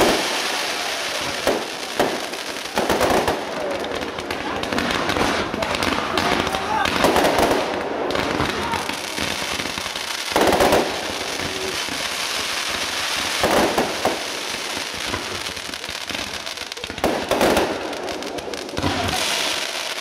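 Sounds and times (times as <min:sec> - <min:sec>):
fireworks crackling and popping: 0:00.0 - 0:20.0
loud firework bursts: 0:00.0 - 0:20.0.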